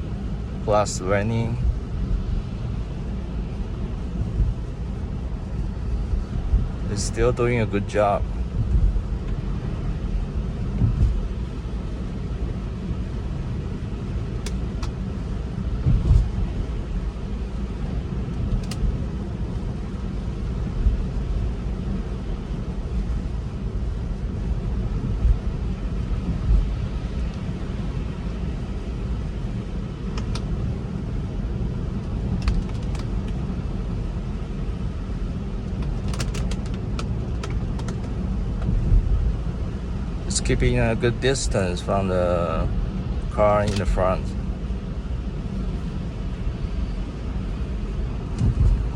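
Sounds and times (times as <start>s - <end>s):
tyres rumbling on wet road: 0.0s - 48.9s.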